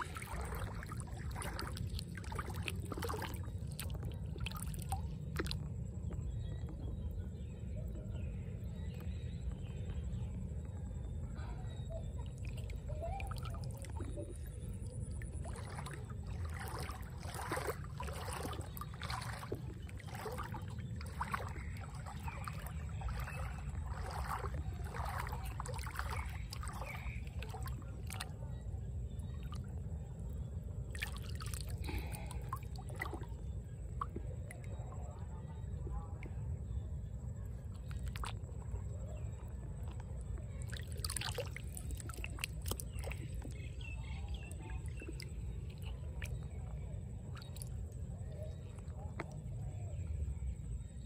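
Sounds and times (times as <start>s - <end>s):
steady low rumble: 0.0s - 51.0s
water splashing and sloshing: 0.0s - 51.0s.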